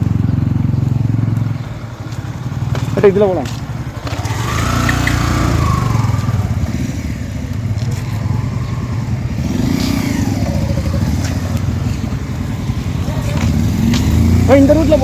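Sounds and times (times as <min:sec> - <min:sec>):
motorcycle engine revving: 0:00.0 - 0:15.0
road noise: 0:00.0 - 0:15.0.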